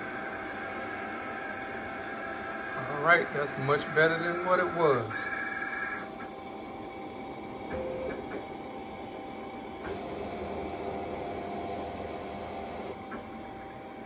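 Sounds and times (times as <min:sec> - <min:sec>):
printer carriage whirring: 0:00.0 - 0:14.0.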